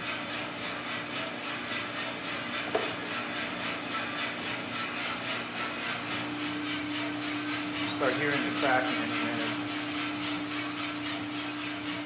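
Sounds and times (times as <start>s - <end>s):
beans tumbling in roaster drum: 0.2s - 12.0s.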